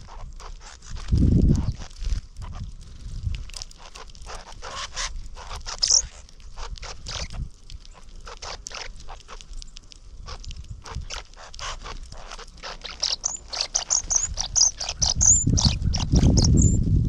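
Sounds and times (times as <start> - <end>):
bird clicks and scratches: 0.0 - 16.6.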